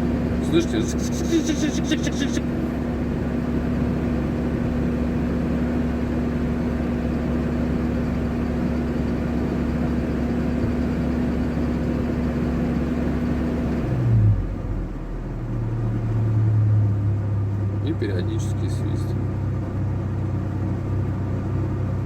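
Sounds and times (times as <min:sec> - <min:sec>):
engine at raised revs: 0:00.0 - 0:22.0.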